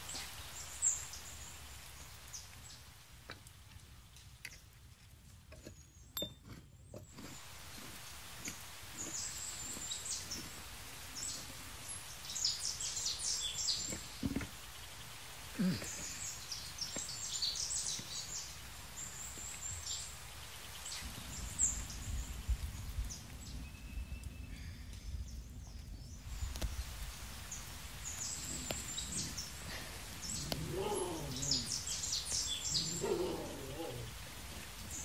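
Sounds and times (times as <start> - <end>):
small birds chirping: 0.0 - 4.7, 5.6 - 35.0.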